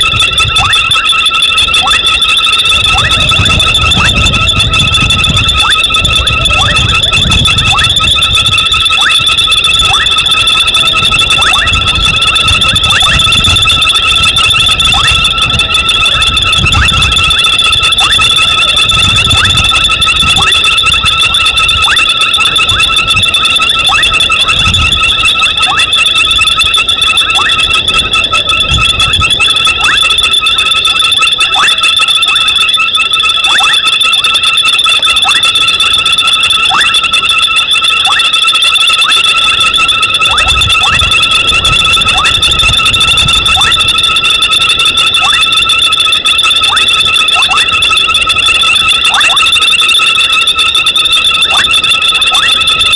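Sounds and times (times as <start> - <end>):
frogs trilling: 0.0 - 52.9.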